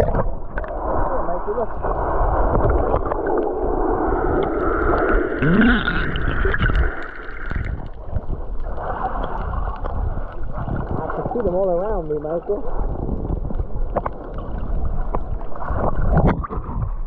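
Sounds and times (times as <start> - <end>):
water churning underwater: 0.0 - 17.0.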